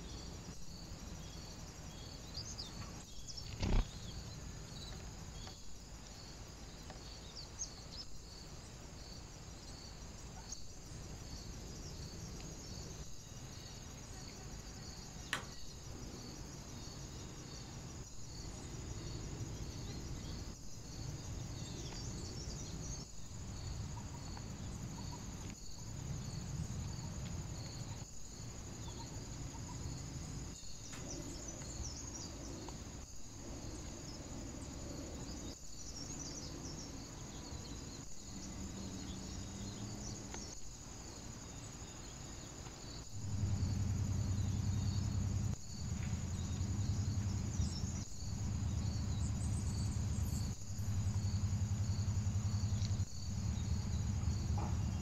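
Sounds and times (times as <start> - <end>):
high insect-like chirp: 0.0 - 55.0.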